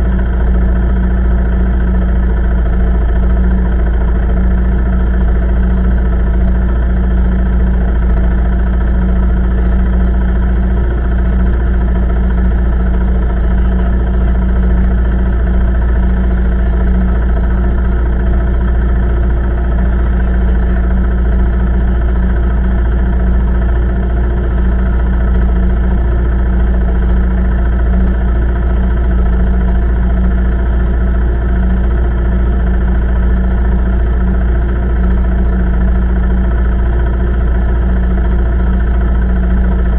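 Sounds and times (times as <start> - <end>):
atv engine idling: 0.0 - 39.9.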